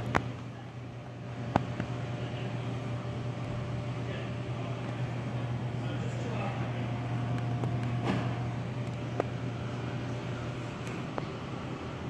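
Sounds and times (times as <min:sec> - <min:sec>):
vending machine hum: 0:00.0 - 0:12.0.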